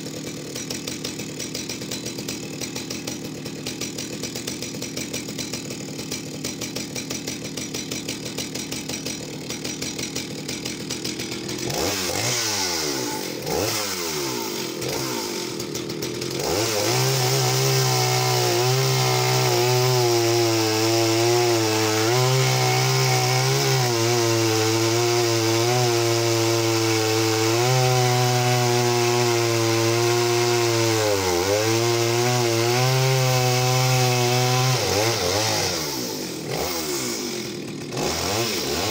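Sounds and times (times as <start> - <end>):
chainsaw cutting log: 0.0 - 38.9
chainsaw idling and revving: 0.0 - 38.9.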